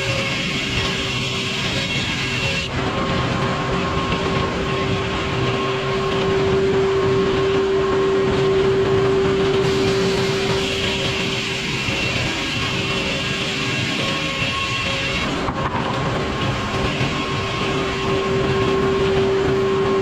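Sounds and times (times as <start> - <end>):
sawmill saw whining: 0.0 - 20.0.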